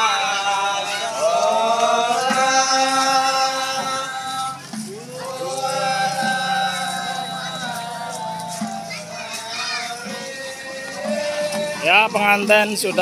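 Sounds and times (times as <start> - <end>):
men chanting in long notes: 0.0 - 13.0.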